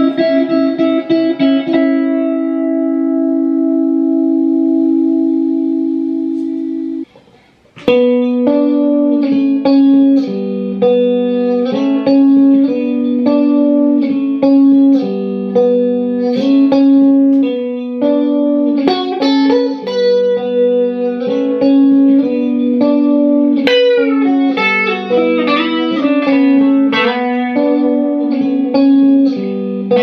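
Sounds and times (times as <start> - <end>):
electric guitar playing plucked notes: 0.0 - 30.0.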